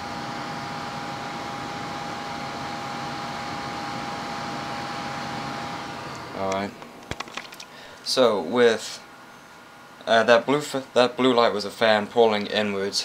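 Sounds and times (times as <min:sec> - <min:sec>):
thin constant whine: 0:00.0 - 0:13.0.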